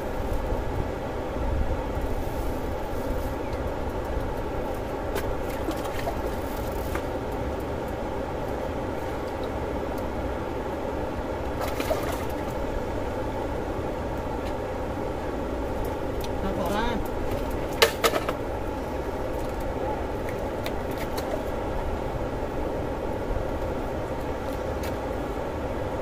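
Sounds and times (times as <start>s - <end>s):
mechanical hum: 0.0s - 26.0s
wind rumble on microphone: 0.0s - 26.0s.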